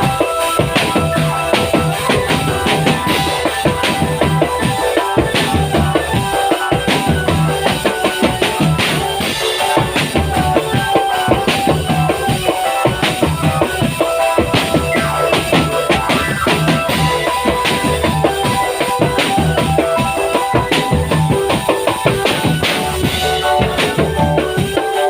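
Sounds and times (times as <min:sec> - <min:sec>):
street band music: 0:00.0 - 0:25.0.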